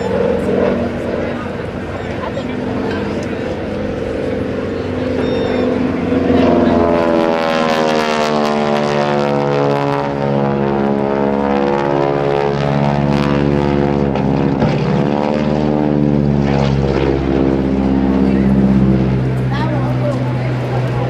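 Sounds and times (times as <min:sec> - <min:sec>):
propeller plane engine overhead: 0:00.0 - 0:21.0.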